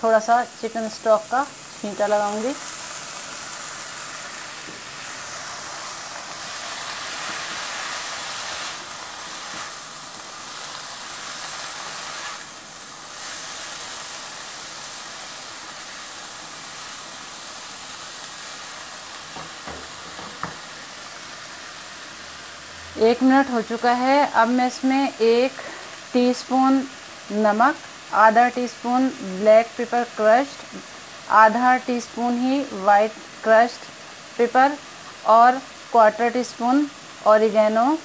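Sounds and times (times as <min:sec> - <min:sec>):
vegetables sizzling in a wok: 0:00.0 - 0:38.0.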